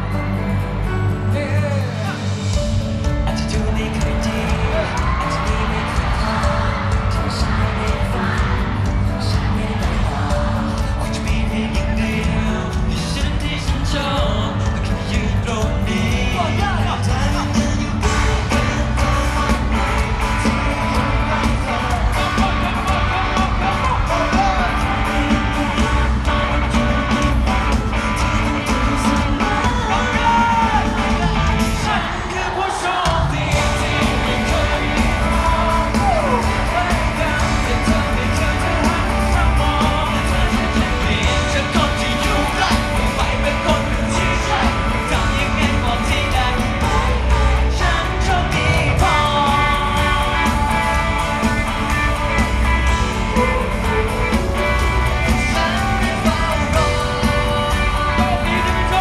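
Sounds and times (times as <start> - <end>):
live pop band with guitar: 0.0 - 59.0
men singing into microphones: 3.2 - 59.0.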